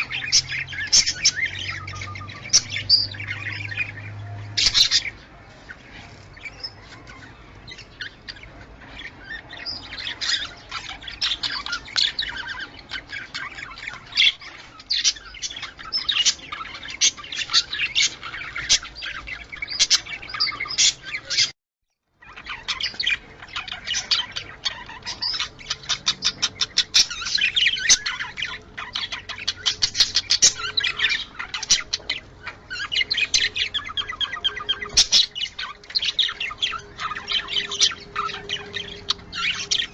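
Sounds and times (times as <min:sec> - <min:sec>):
budgerigar chirping and warbling: 0:00.0 - 0:05.4, 0:06.1 - 0:21.5, 0:22.2 - 0:39.9.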